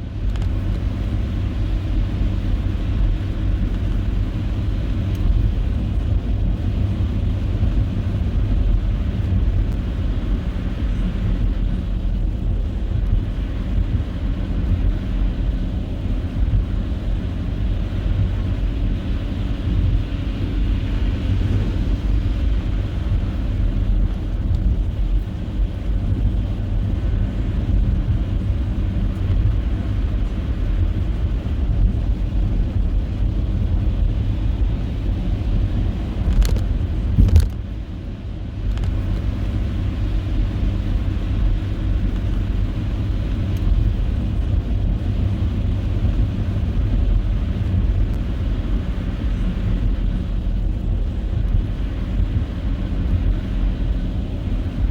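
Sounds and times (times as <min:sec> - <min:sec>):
car rumbling on snowy road: 0:00.0 - 0:54.9.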